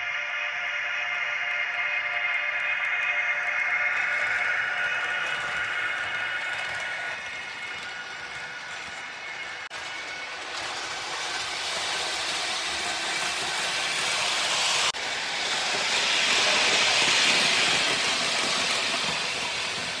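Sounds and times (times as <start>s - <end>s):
model train whirring on track: 0.0s - 20.0s.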